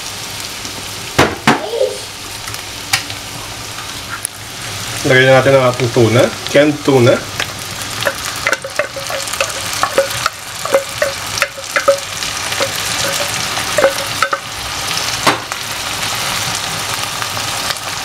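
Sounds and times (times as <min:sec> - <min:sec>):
onion and garlic sizzling: 0:00.0 - 0:18.0.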